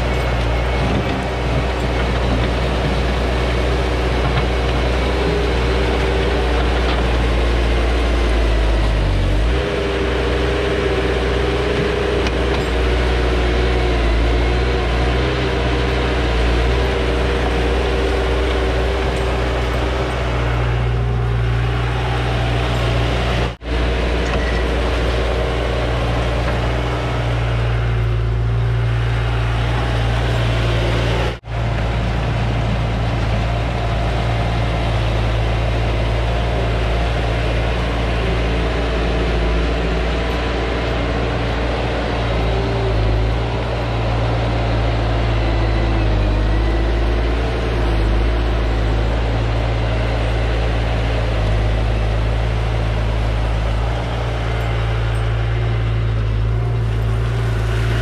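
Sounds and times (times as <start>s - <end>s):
loader engine running: 0.0s - 58.0s.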